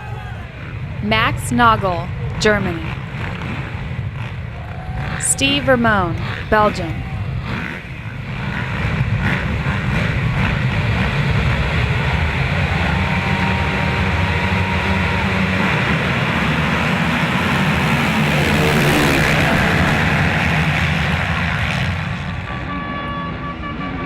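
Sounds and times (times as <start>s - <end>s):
motocross bikes at full throttle: 0.0s - 24.0s.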